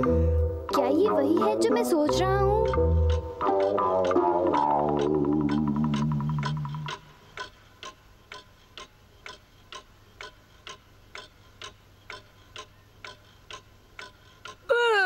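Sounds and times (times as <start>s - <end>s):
pendulum clock ticking: 0.0s - 14.8s.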